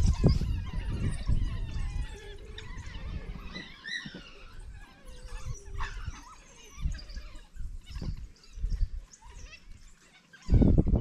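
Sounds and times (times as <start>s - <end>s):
wild dogs twittering: 0.0s - 11.0s.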